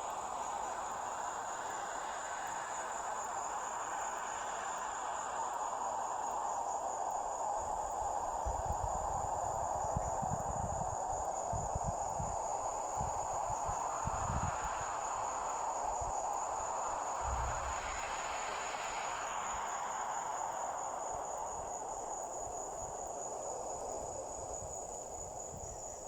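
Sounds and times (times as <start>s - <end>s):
crickets trilling: 0.0s - 26.0s
steady hiss: 0.0s - 26.0s.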